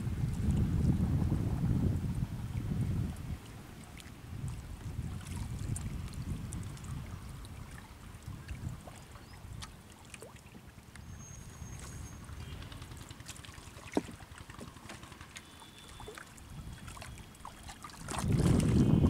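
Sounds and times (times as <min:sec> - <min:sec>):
water trickling and dripping: 0:02.0 - 0:19.0.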